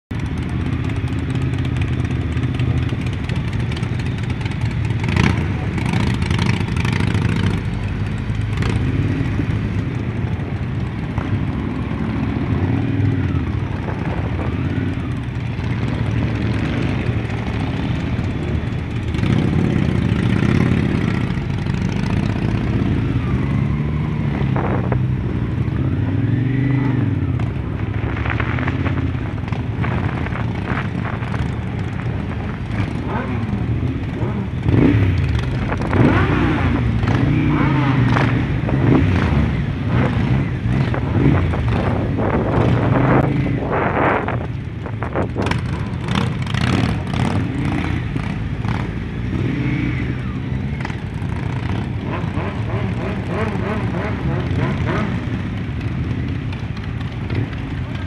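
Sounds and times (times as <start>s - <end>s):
motorcycle engines revving: 0.1s - 58.0s.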